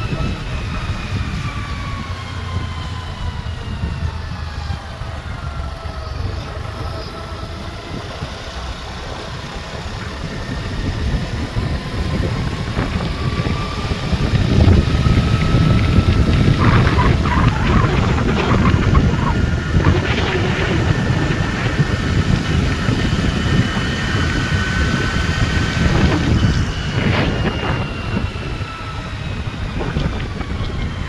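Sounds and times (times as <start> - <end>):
wind rumbling on microphone: 0.0 - 31.0
motorcycle engine running: 5.2 - 31.0.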